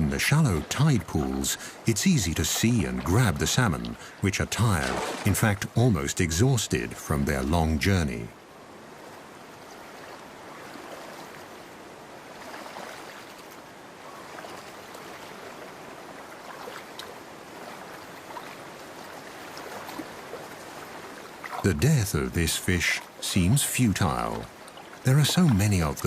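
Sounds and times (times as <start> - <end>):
small water splashes: 0.0 - 5.8, 8.8 - 26.0
stream water running: 0.0 - 26.0.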